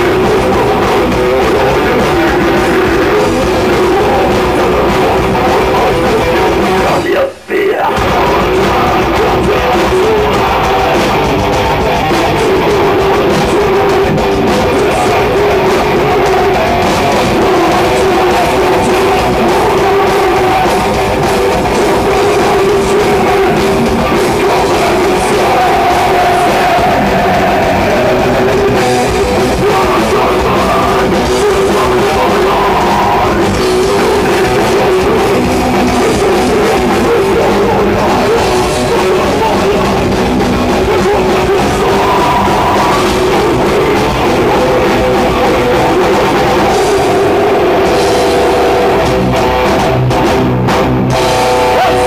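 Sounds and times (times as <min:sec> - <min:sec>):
bass guitar: 0:00.0 - 0:52.0
distorted guitars: 0:00.0 - 0:52.0
drum kit: 0:00.0 - 0:52.0.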